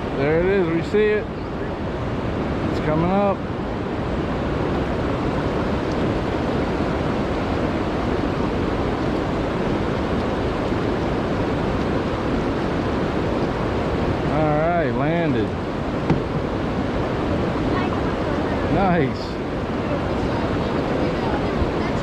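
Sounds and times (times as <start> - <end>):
creek water flowing: 0.0 - 22.0
wind on microphone: 0.0 - 22.0.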